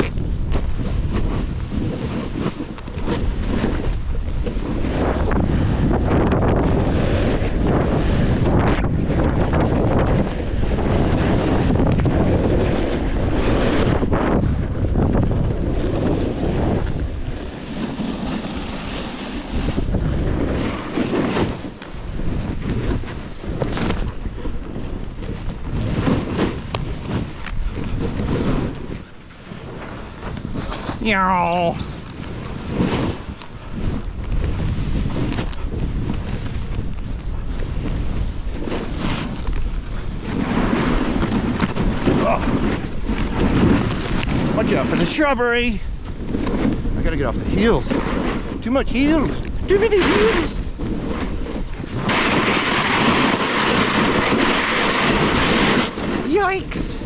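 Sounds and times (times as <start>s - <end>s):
snowboard scraping on snow: 0.0s - 57.0s
wind rushing over microphone: 0.0s - 57.0s.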